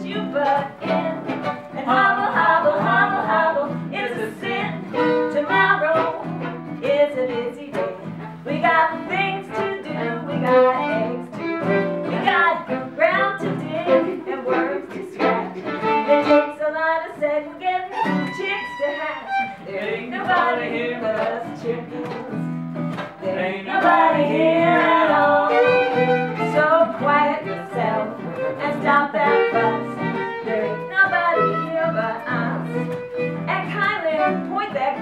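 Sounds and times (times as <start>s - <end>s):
woman singing: 0.0s - 22.6s, 23.2s - 35.0s
fiddle music: 0.0s - 35.0s.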